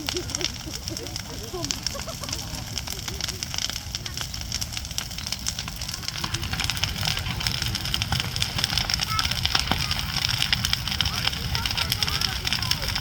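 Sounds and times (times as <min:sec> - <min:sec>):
bonfire crackling: 0:00.0 - 0:13.0
low fire rumble: 0:00.0 - 0:13.0.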